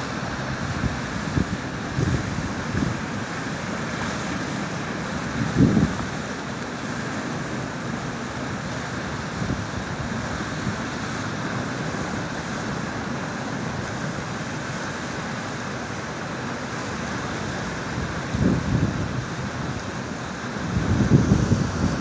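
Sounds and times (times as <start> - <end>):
river water rushing over rapids: 0.0 - 22.0.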